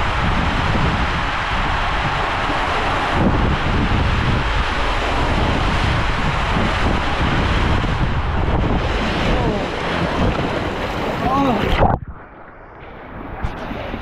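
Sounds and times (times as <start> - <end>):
water rushing down a water slide: 0.0 - 14.0.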